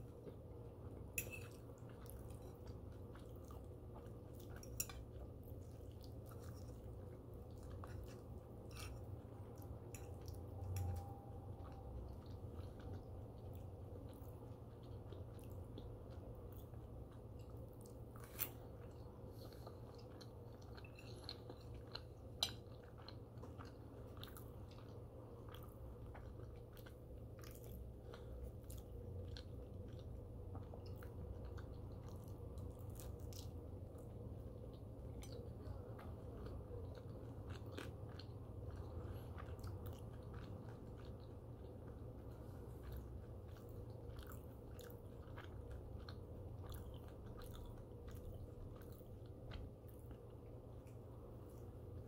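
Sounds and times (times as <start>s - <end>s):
chewing and crunching: 0.0s - 52.0s
steady low hum: 0.0s - 52.0s.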